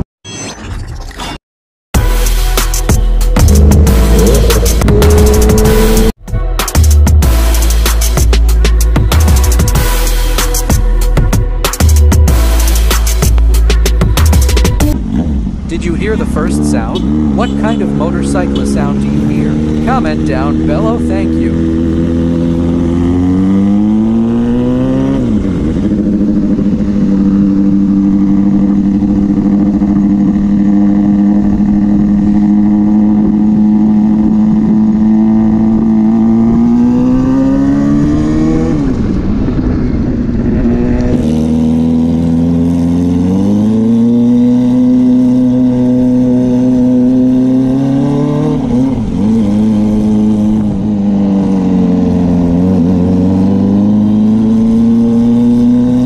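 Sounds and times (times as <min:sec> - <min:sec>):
motorcycle engine revving: 0:02.8 - 0:06.2, 0:11.8 - 0:56.0.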